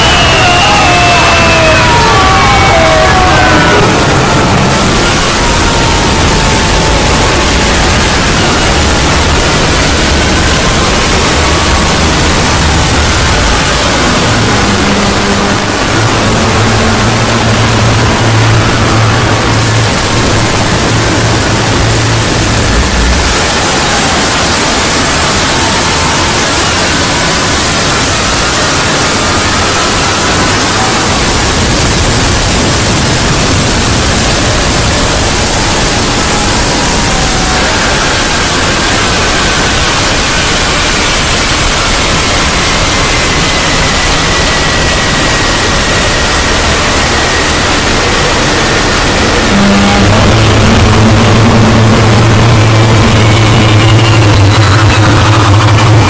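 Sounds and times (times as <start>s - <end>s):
dense distorted hiss: 0.0s - 56.0s
low hum: 0.0s - 56.0s.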